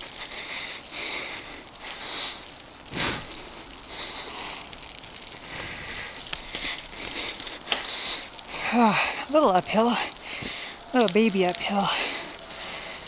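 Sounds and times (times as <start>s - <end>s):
bike tyres on dirt and leaves: 0.0s - 13.0s.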